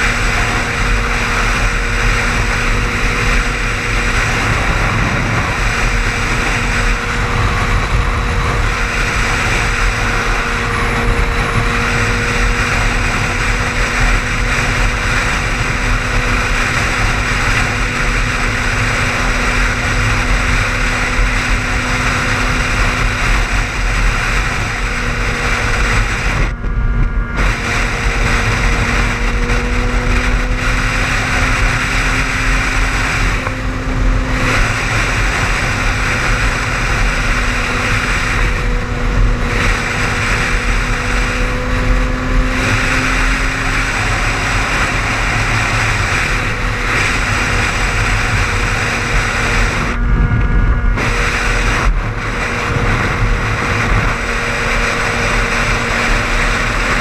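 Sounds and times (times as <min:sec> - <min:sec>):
car engine hum: 0:00.0 - 0:57.0
road and tyre noise: 0:00.0 - 0:57.0.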